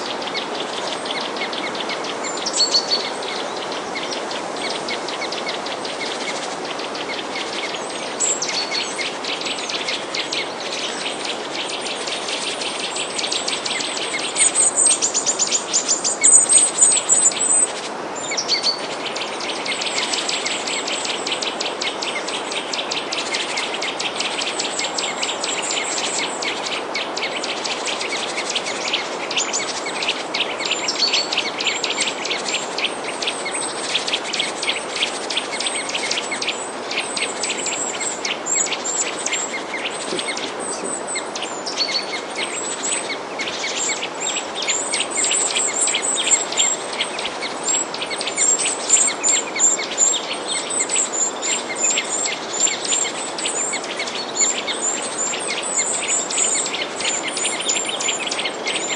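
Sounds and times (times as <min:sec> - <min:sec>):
small birds chirping: 0:00.0 - 0:58.9
steady hiss: 0:00.0 - 0:58.9.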